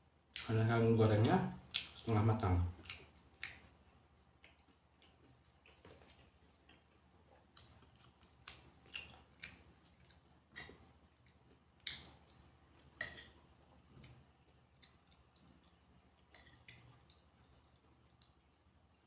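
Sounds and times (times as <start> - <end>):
close chewing sounds: 1.6 - 19.0.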